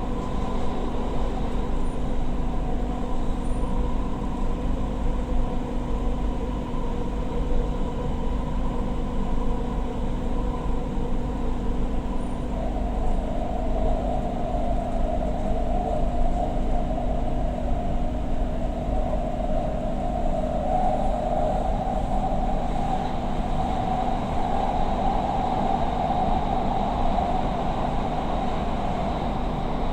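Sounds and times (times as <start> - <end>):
train rumble: 0.0 - 29.9.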